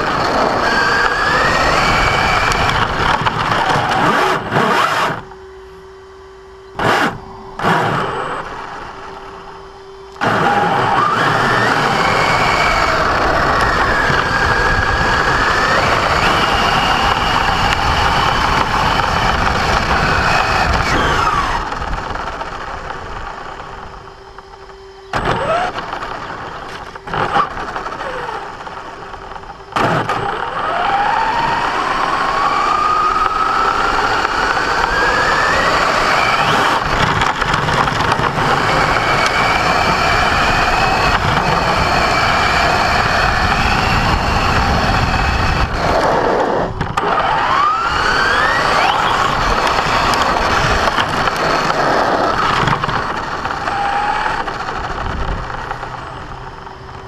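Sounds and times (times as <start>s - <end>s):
toy truck motor whining and grinding: 0.0s - 5.4s, 6.7s - 57.0s.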